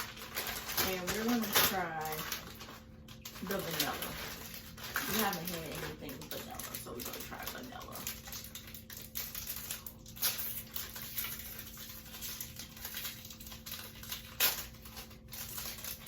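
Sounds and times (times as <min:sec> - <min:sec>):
plastic wrapper crinkling: 0:00.0 - 0:16.0.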